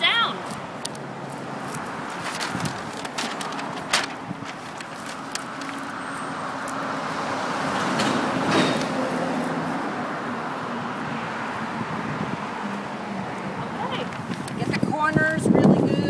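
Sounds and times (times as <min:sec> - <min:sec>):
vehicle passing: 0:00.1 - 0:15.8.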